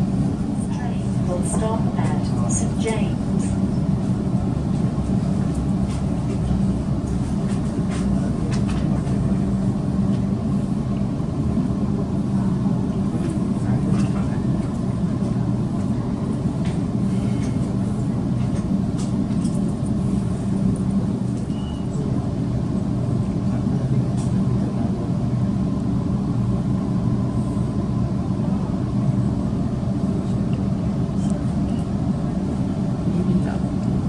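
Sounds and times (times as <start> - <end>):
low motor hum: 0.0 - 34.0
train wheels rumbling on rail: 0.0 - 34.0.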